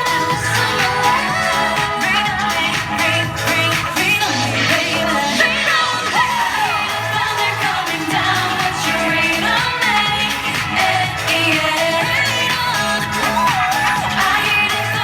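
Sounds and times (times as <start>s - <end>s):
dance song with woman singing: 0.0s - 15.0s.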